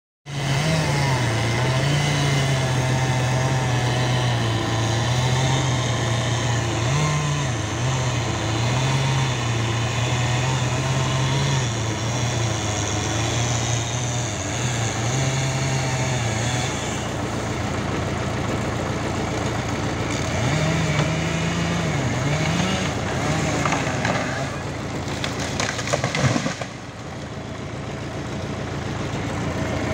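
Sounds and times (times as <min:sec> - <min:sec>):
chainsaw cutting wood: 0:00.3 - 0:29.9.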